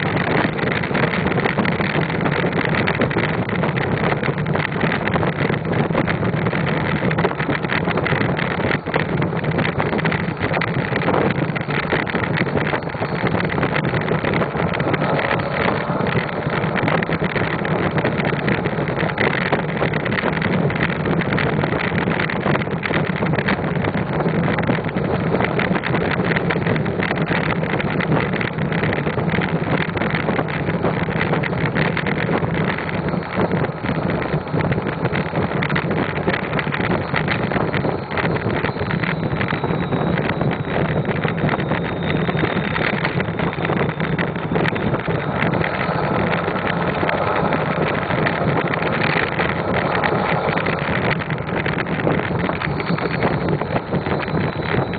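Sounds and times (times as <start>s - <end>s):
diesel engine exhaust running: 0.0s - 54.9s
wind buffeting microphone: 0.0s - 54.9s.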